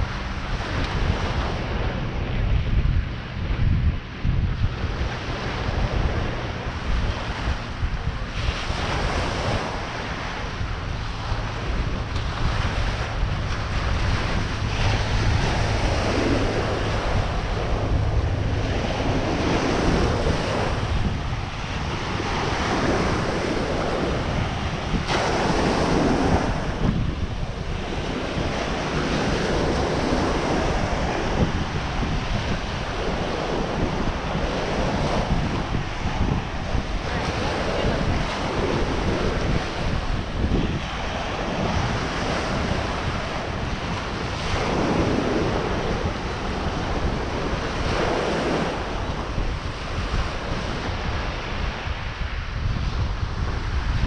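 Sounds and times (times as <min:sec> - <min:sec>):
ocean surf breaking on beach: 0:00.0 - 0:54.0
wind rumble on microphone: 0:00.0 - 0:54.0.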